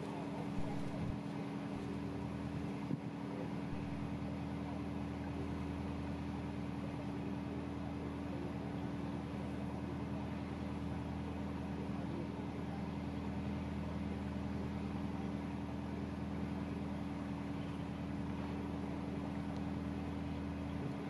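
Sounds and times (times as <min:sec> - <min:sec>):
boat diesel engine droning: 0:00.0 - 0:21.0.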